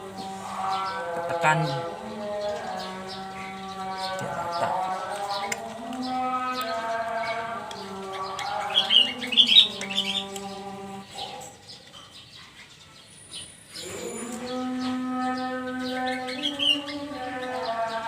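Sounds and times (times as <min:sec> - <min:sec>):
held melodic chanting tone: 0:00.0 - 0:12.3, 0:13.0 - 0:18.0
birds chirping: 0:00.0 - 0:18.0.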